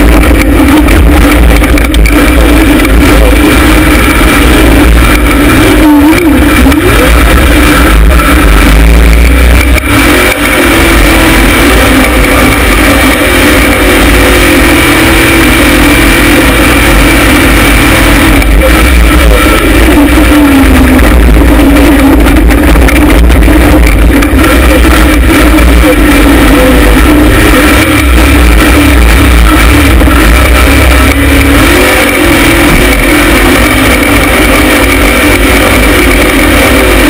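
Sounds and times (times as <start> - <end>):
engine revving under full throttle: 0.0 - 37.0.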